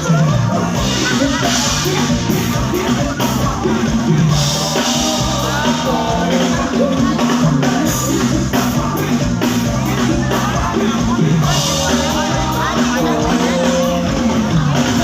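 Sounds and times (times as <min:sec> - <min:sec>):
drum kit beat: 0:00.0 - 0:15.0
live band playing dance music: 0:00.0 - 0:15.0.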